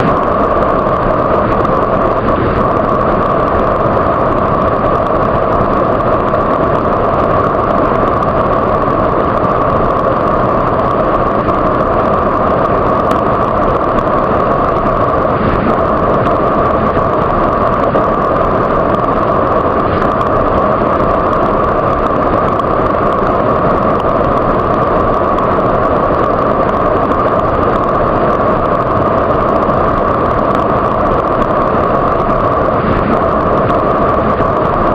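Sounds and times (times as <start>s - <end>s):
waterfall roaring: 0.0s - 34.9s.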